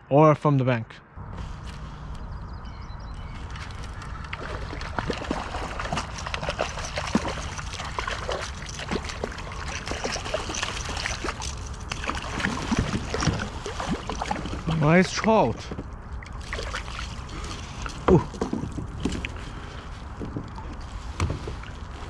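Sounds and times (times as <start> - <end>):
steady low rumble: 1.2 - 22.0
water splashing and dripping: 3.4 - 22.0.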